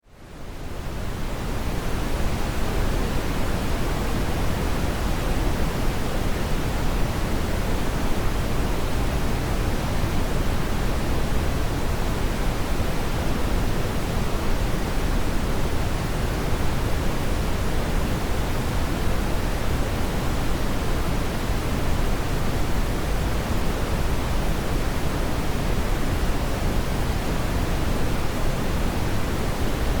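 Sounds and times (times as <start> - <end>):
deep brown noise hiss: 0.2 - 30.0.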